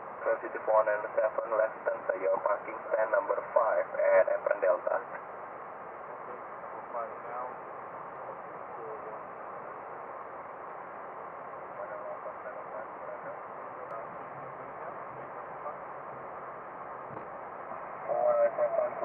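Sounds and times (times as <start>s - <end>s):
radio hiss: 0.0s - 19.0s.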